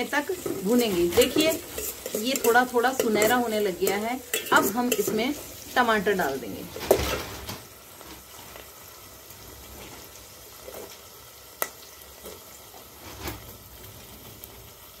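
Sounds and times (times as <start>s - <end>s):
onion frying in oil: 0.0s - 15.0s.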